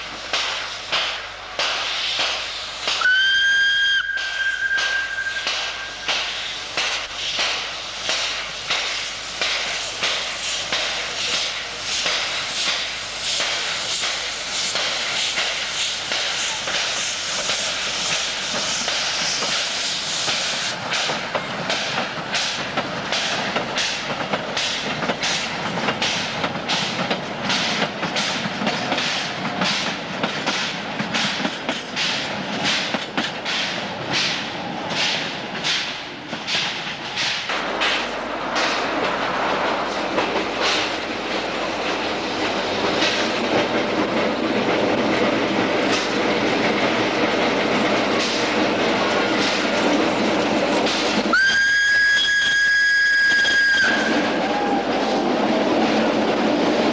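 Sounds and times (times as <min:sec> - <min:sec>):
steam locomotive chuffing: 0:00.0 - 0:56.9.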